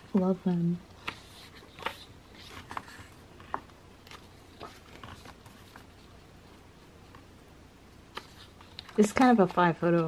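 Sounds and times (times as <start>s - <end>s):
paper and card rustling: 0.0s - 7.3s, 8.1s - 10.0s.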